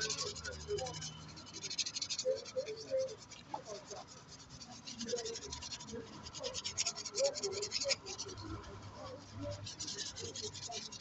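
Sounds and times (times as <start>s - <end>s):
brush scrubbing wheel: 0.0s - 11.0s.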